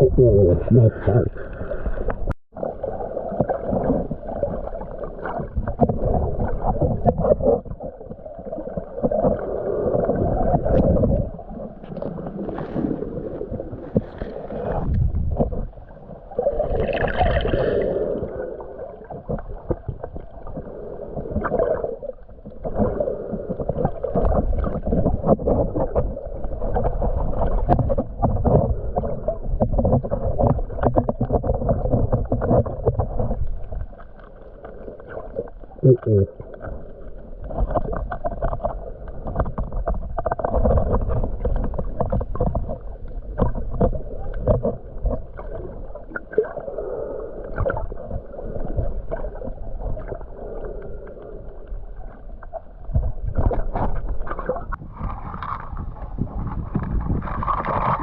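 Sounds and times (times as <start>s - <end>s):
muffled underwater sloshing: 0.0s - 58.0s.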